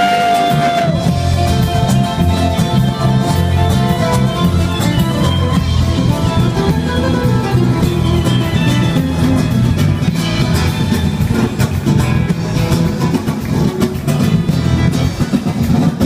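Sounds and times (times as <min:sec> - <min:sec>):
flamenco acoustic guitar: 0:00.0 - 0:16.0.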